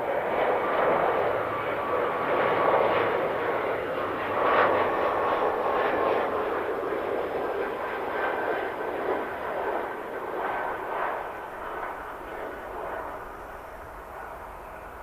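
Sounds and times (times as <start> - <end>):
airliner engine rushing: 0.0 - 15.0.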